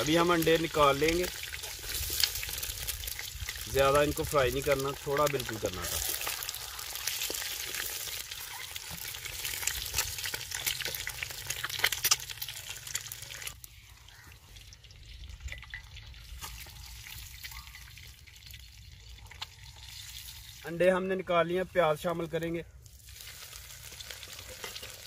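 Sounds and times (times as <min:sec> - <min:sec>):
eggs sizzling in hot oil: 0:00.0 - 0:20.8, 0:22.8 - 0:25.0.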